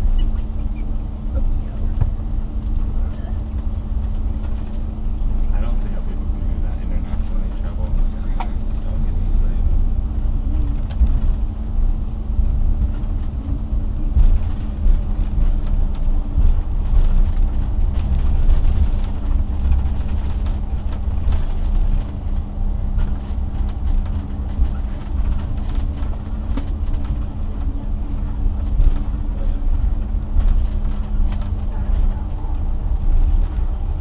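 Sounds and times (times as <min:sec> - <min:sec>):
airliner cabin rumble: 0:00.0 - 0:34.0.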